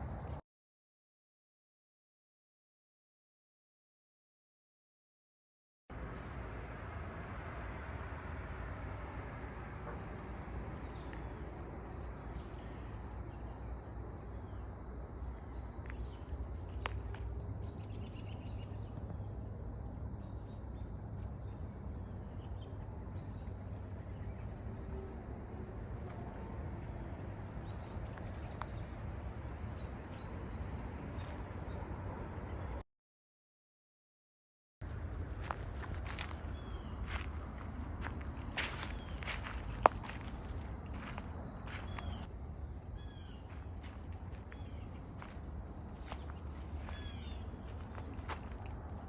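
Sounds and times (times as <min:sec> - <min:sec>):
crickets trilling: 0:05.9 - 0:32.8, 0:34.8 - 0:49.0.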